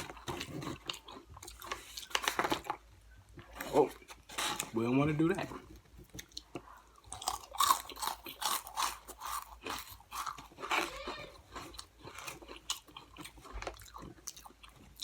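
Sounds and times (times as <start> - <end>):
crunching and chewing cheese puffs: 0.0 - 15.0.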